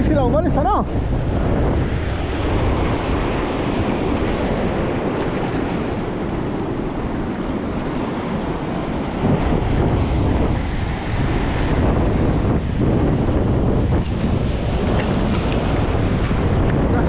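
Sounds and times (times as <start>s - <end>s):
sea surf: 0.0s - 17.0s
wind buffeting microphone: 0.0s - 17.0s.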